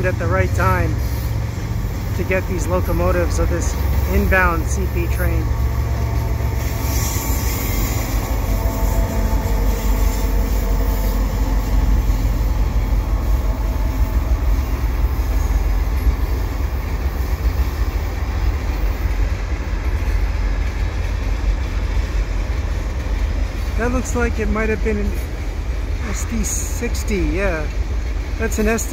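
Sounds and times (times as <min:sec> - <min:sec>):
freight train rumbling past: 0:00.0 - 0:28.9.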